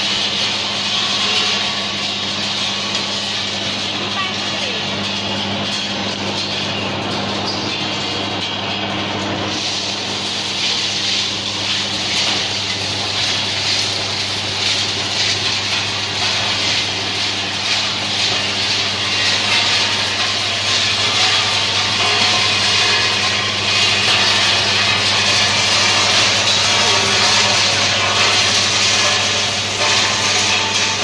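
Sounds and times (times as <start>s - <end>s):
sieving drum machine humming: 0.0s - 31.0s.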